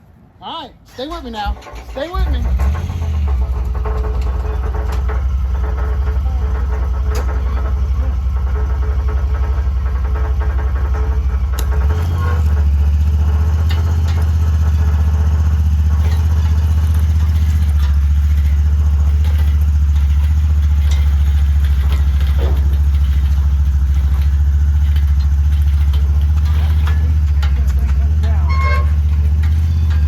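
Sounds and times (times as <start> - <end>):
light clattering knocks: 1.2 - 30.0
vehicle engine running at low revs: 2.2 - 30.0.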